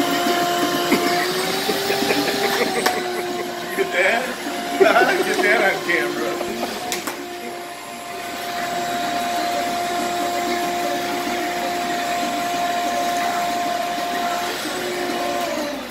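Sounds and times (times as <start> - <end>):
shop vacuum motor whine: 0.0 - 15.9.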